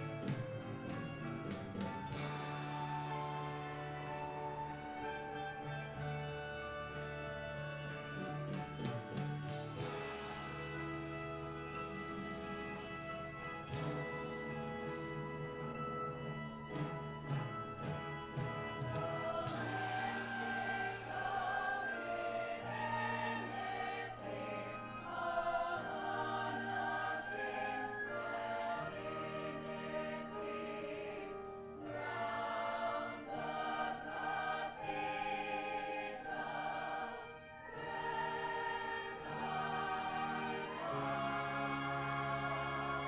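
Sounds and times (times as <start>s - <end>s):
instrumental accompaniment: 0.0s - 43.0s
chorus singing held chords: 1.8s - 43.0s.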